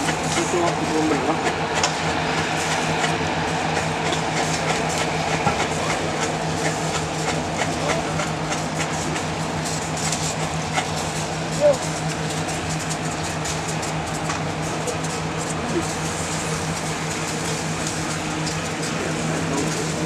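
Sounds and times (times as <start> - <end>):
hot rocks sizzling in sauce: 0.0 - 20.0.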